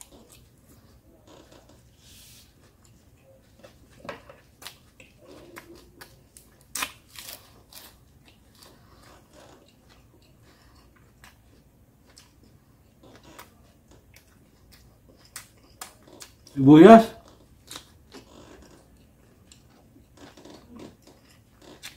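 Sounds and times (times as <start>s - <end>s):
crunching and chewing vegetables: 0.0s - 21.9s.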